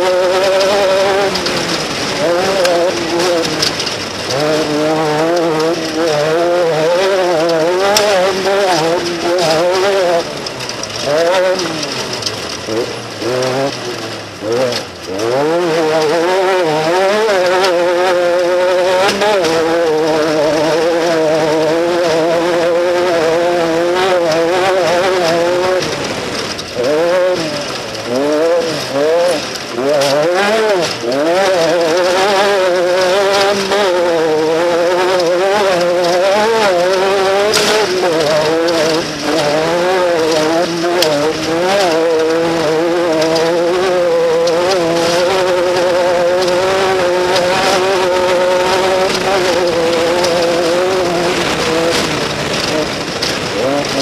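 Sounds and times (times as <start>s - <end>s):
race vehicle engine buzzing: 0.0s - 54.0s.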